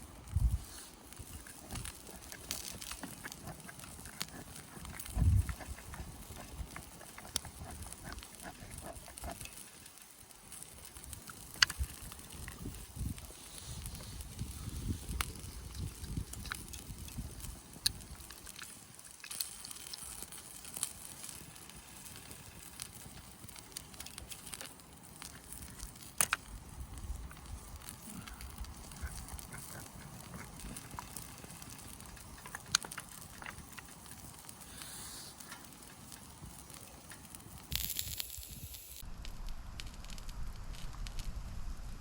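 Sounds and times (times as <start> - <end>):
campfire crackling: 0.0 - 42.0
sharp pops of fire: 0.2 - 41.8.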